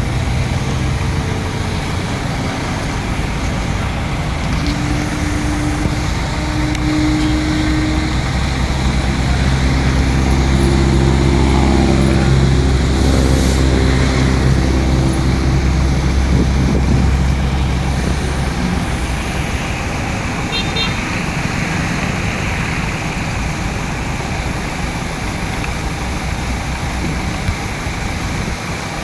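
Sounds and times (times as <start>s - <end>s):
heavy diesel engine under load: 0.0s - 29.0s.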